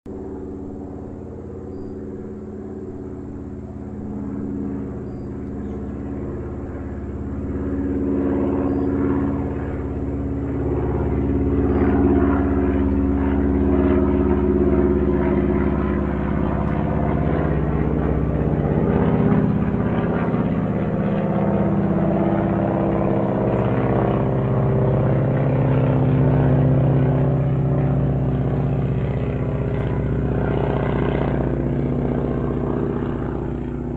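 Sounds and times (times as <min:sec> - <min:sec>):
airplane engine droning overhead: 0:00.0 - 0:33.9.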